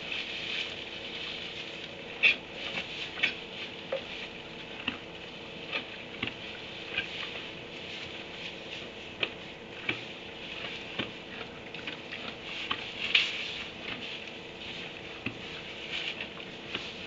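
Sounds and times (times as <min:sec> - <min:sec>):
donkeys rustling in wood shavings: 0:00.0 - 0:17.0
faint steady hum: 0:00.0 - 0:17.0.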